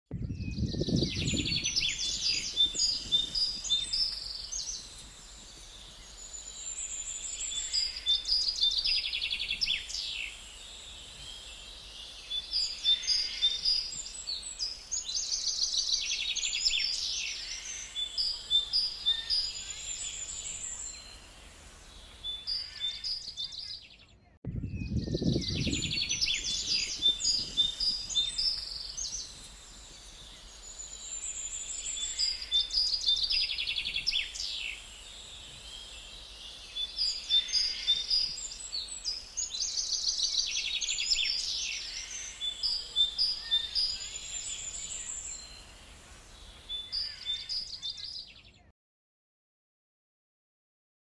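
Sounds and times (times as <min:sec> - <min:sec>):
songbirds chirping and trilling: 0:00.1 - 0:48.7.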